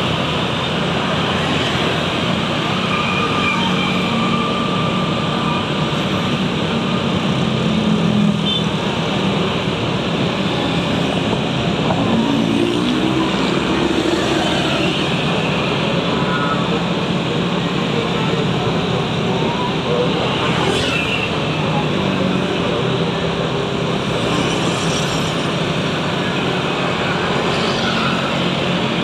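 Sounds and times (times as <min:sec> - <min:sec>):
vehicle engine hum: 0:00.0 - 0:29.0
wind and road noise: 0:00.0 - 0:29.0.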